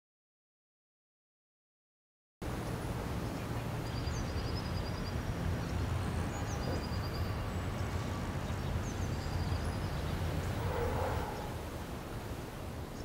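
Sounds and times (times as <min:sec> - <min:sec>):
small birds chirping: 0:02.5 - 0:13.0.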